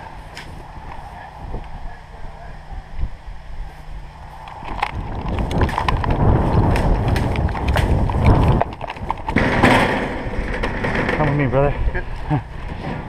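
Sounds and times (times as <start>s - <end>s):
rumbling gusty microphone noise: 0.0s - 13.0s.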